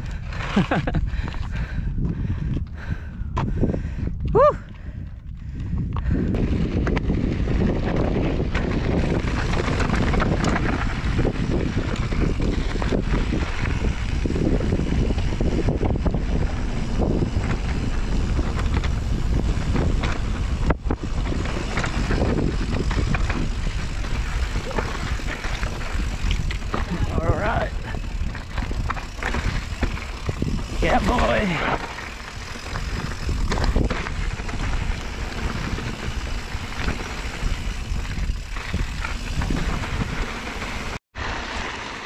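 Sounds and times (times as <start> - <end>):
bike rolling over rocky trail: 0.0 - 3.7, 4.7 - 42.0
wind buffeting microphone: 0.0 - 41.0
bike knocks and rattles: 6.0 - 41.0.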